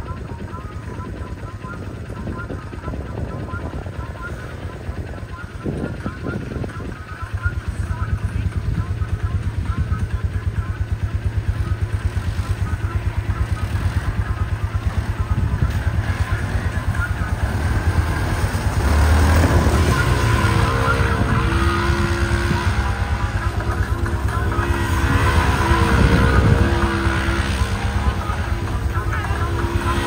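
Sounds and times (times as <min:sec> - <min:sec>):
off-road vehicle engines revving: 0:00.0 - 0:30.0.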